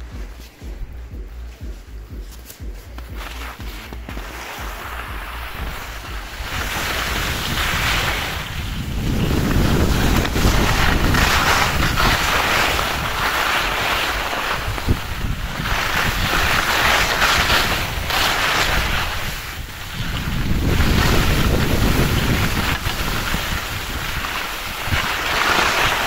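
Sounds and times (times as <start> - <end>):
wind buffeting microphone: 0.0 - 26.0
skis hissing over snow: 2.4 - 26.0.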